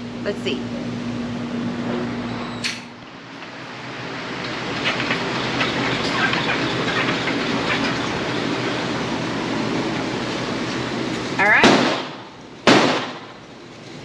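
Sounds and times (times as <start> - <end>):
target carrier mechanical rumble: 0.0 - 14.0.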